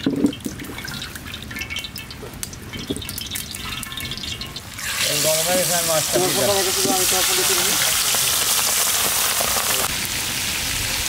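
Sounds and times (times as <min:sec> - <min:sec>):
oil trickling into a pan: 0:00.0 - 0:10.6
fire crackling: 0:00.0 - 0:11.0.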